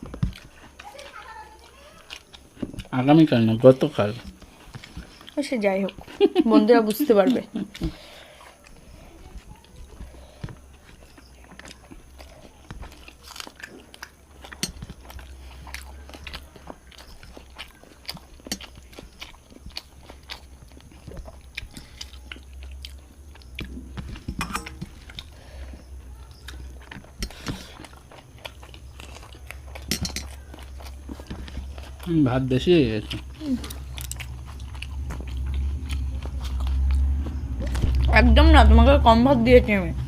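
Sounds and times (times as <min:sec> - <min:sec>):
people chewing food: 0:00.0 - 0:40.0
steady low hum: 0:00.0 - 0:40.0.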